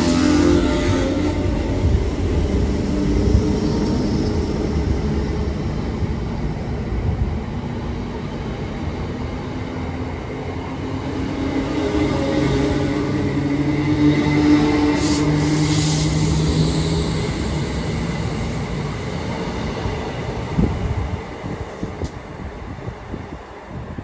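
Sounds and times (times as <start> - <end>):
train wheels rumbling: 0.0 - 24.0.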